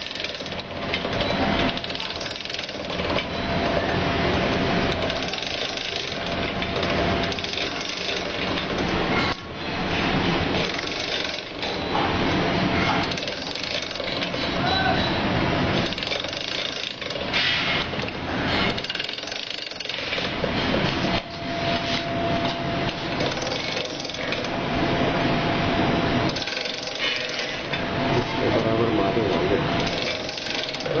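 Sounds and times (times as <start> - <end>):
skewer machine clattering: 0.0 - 9.5, 10.2 - 15.0, 15.7 - 21.1, 22.9 - 24.6, 26.3 - 27.8, 28.5 - 31.0.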